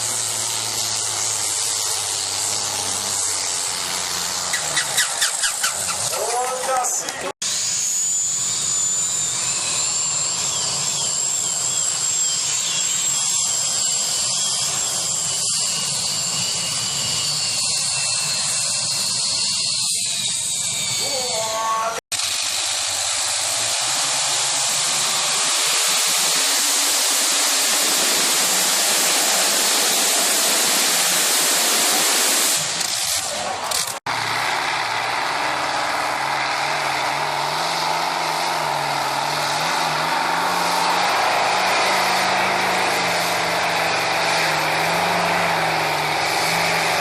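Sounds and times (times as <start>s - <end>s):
pulling tractor engine whine: 0.0s - 21.4s, 22.1s - 47.0s.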